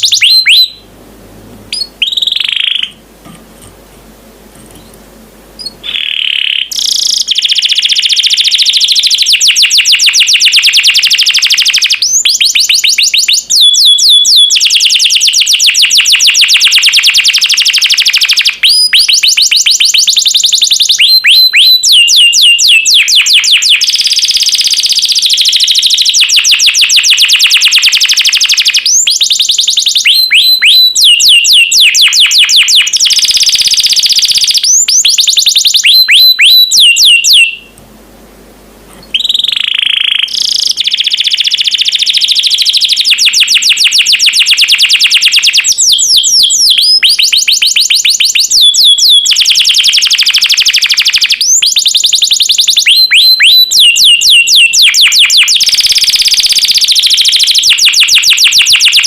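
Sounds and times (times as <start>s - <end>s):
canary singing trills: 0.0s - 0.9s, 1.7s - 3.0s, 5.6s - 37.8s, 39.0s - 59.0s.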